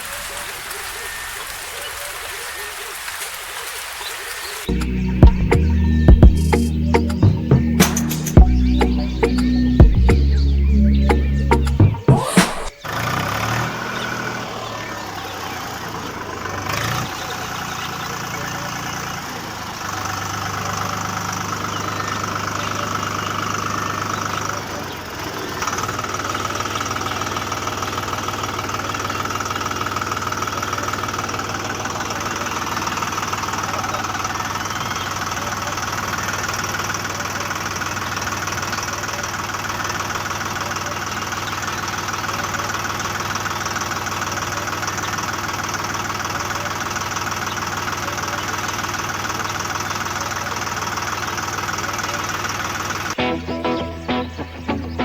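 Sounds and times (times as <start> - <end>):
mini tractor engine humming: 4.6 - 55.0.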